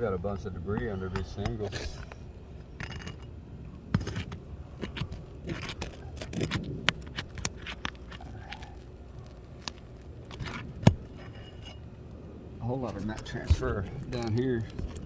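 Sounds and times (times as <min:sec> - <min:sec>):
sharp clicks of tearing shingles: 0:00.0 - 0:15.0
shingles scraping and crackling: 0:00.0 - 0:15.0.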